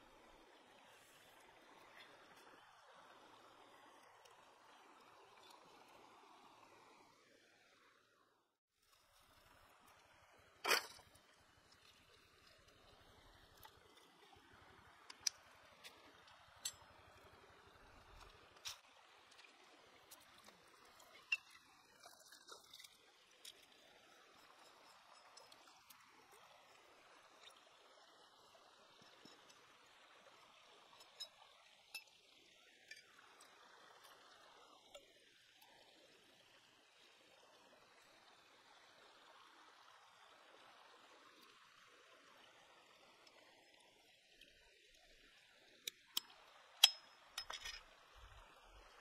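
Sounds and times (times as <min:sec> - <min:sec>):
stream trickling over rocks: 0:00.0 - 0:49.0.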